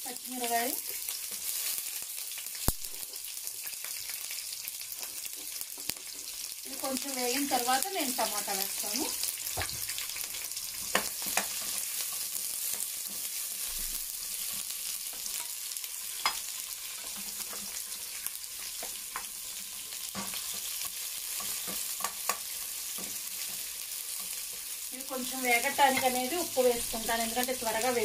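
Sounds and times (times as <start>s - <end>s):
onions sizzling in a pan: 0.0s - 28.0s.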